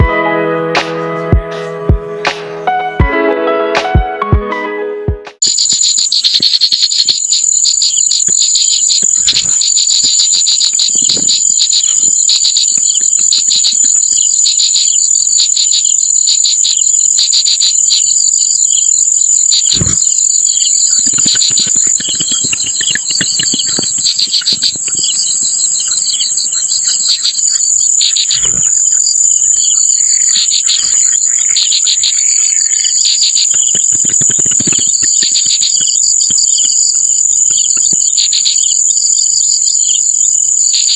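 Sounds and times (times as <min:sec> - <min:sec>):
insect chorus whining: 0:05.4 - 0:40.9.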